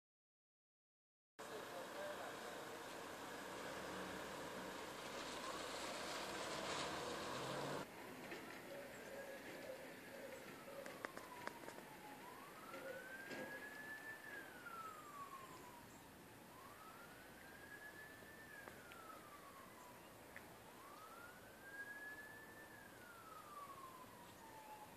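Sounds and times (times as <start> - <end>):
faint emergency siren wailing: 1.4 - 24.9.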